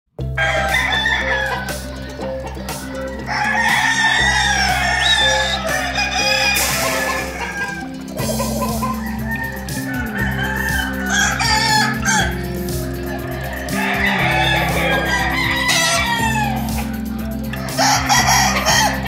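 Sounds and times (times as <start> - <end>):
background music of held notes: 0.2 - 19.0
chickens clucking: 0.4 - 19.0
roosters crowing: 0.4 - 19.0.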